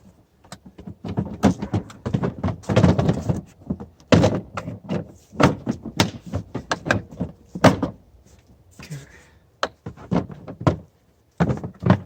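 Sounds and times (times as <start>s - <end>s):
plastic cases knocking and clunking: 0.4s - 8.0s, 9.6s - 12.0s.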